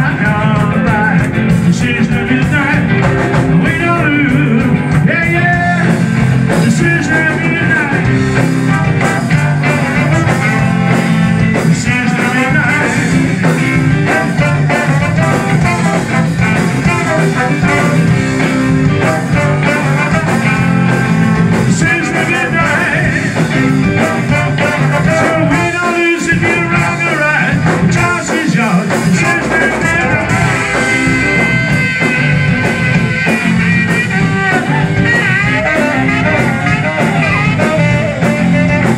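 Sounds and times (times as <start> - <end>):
drums: 0.0 - 38.9
electric guitar: 0.0 - 38.9
horn section playing melody: 2.4 - 27.7, 28.8 - 38.9.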